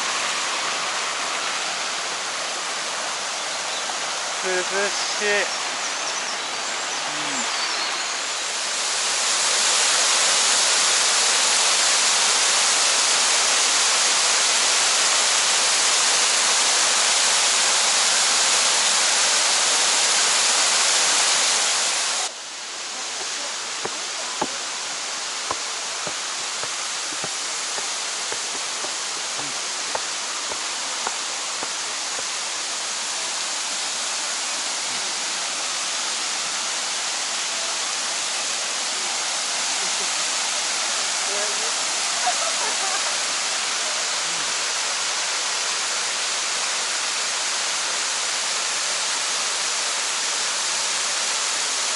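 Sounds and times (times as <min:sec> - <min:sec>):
waterfall rushing and splashing: 0:00.0 - 0:51.9.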